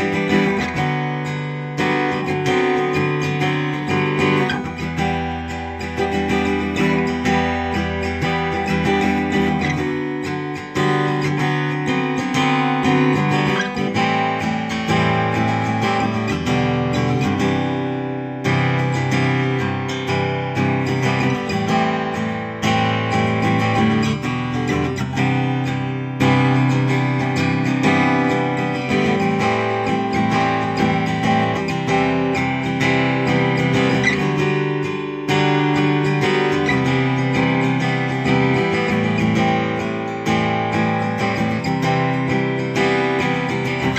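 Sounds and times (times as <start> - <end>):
acoustic guitar strumming chords: 0.0 - 43.9.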